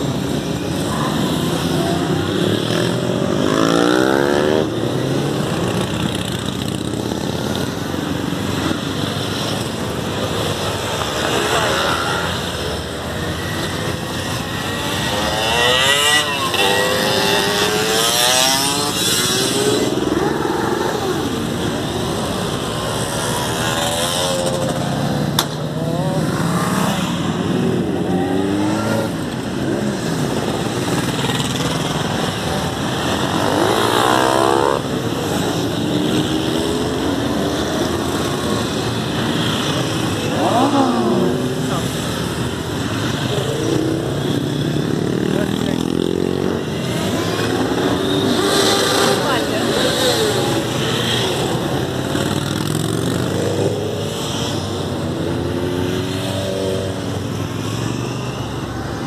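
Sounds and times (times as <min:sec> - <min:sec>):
motorcycles passing by revving: 0:00.0 - 0:59.0.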